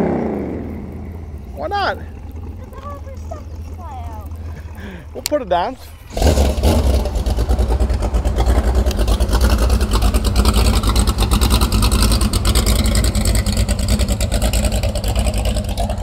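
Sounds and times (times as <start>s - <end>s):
motorboat engine running hard: 0.0s - 16.0s.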